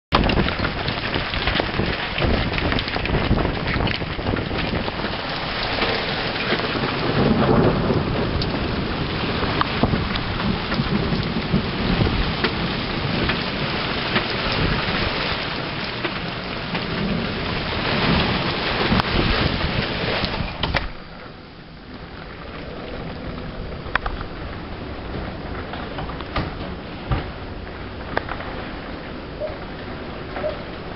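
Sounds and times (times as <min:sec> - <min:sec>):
hailstones ticking: 0:00.1 - 0:20.9, 0:21.7 - 0:30.9
hail and rain pelting: 0:00.1 - 0:30.9.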